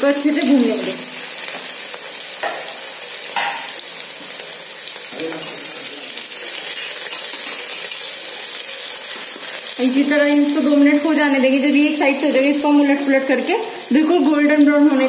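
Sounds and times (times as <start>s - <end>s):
onions sizzling in hot oil: 0.0s - 15.0s
skimmer stirring onions: 1.3s - 15.0s.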